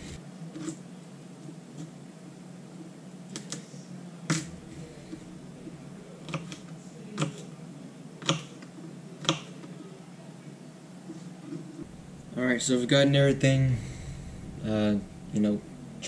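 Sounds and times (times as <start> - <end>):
steady low hum: 0.0 - 9.2, 9.8 - 16.0.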